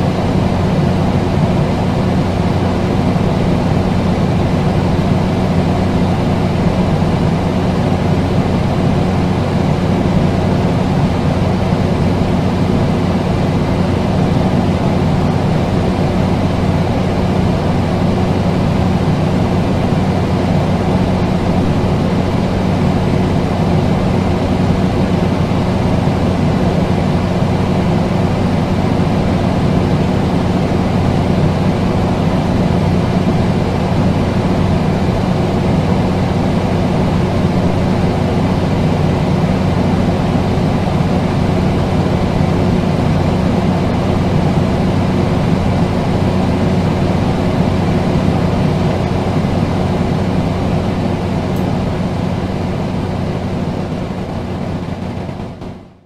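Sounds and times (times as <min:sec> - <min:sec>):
air conditioner running: 0:00.0 - 0:56.0.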